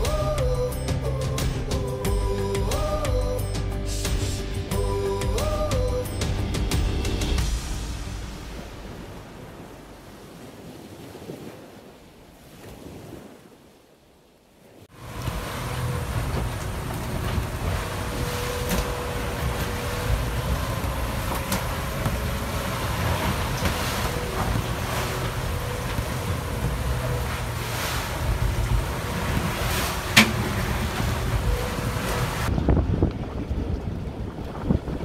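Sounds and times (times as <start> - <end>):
boat low rumble: 0.0 - 13.2, 14.8 - 35.0.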